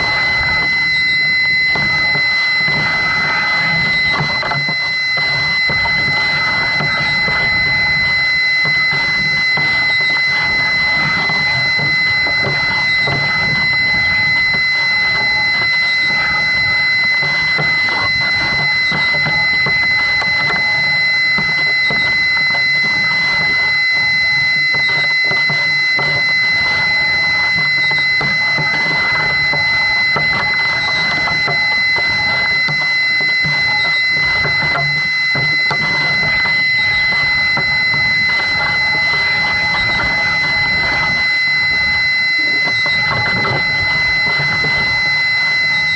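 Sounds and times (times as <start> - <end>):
high-pitched electronic tone: 0.0 - 45.9.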